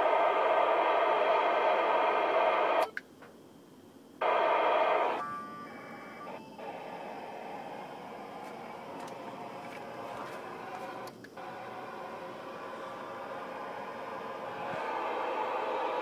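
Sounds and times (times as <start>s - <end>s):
raspy radio static hiss: 0.0s - 16.0s.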